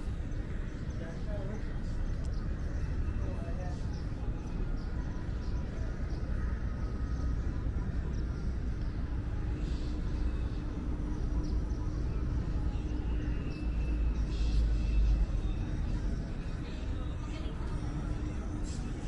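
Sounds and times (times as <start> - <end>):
faint hum: 0.0 - 19.0
outdoor background noise: 0.0 - 19.0.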